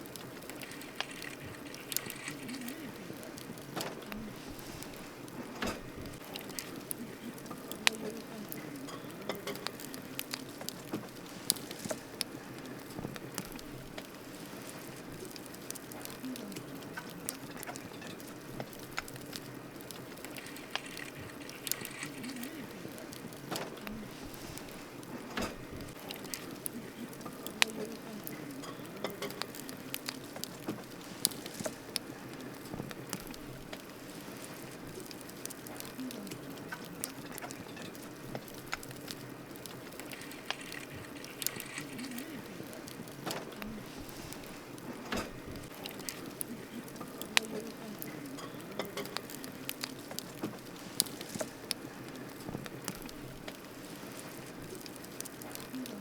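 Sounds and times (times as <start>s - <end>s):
campfire crackling and popping: 0.0s - 56.0s
fire hiss: 0.0s - 56.0s.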